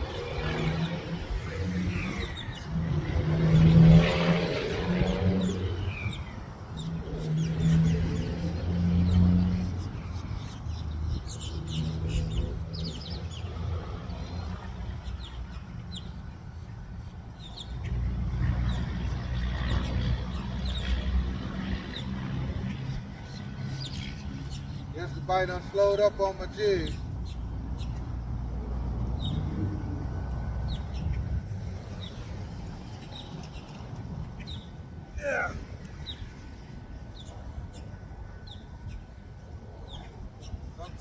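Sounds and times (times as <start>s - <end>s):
small birds chirping: 0.0s - 18.0s, 19.7s - 28.3s, 30.6s - 41.0s
low mechanical hum: 0.0s - 40.8s.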